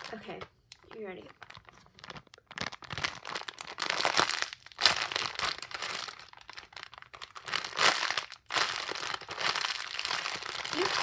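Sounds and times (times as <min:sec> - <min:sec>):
crinkling and crunching handling: 0:00.0 - 0:11.0.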